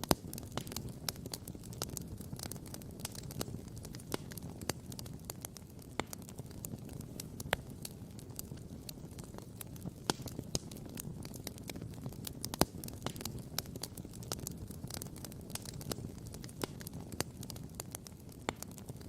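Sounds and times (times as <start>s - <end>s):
low rumble of burning: 0.0s - 19.0s
wood fire crackling and popping: 0.0s - 19.0s.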